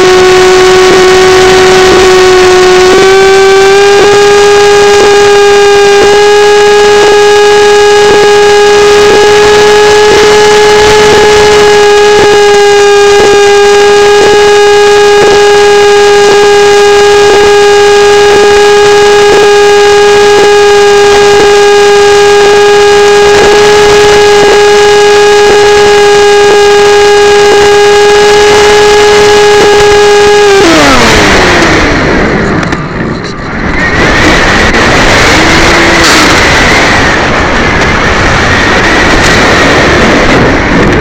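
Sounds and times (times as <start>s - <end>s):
electric motor and propeller whine: 0.0s - 41.0s.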